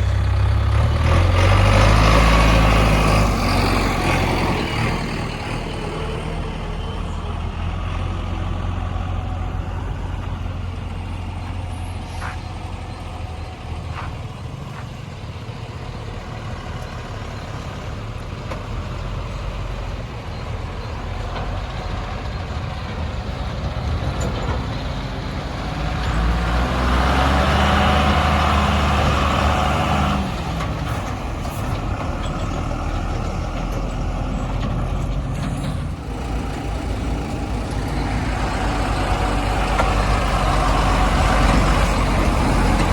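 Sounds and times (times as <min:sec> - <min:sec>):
diesel machinery running: 0:00.0 - 0:42.9.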